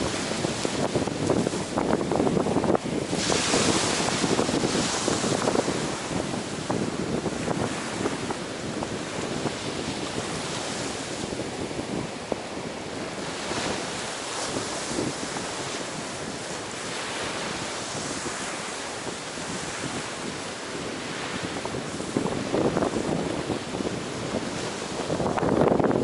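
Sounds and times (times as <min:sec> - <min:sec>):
ocean waves washing onto beach: 0:00.0 - 0:26.0
wind buffeting microphone: 0:00.0 - 0:26.0.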